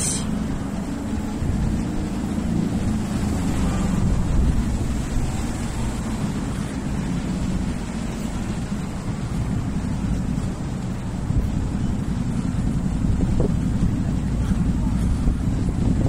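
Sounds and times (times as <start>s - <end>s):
road traffic rumble: 0.0s - 16.0s
wind buffeting microphone: 0.3s - 16.0s.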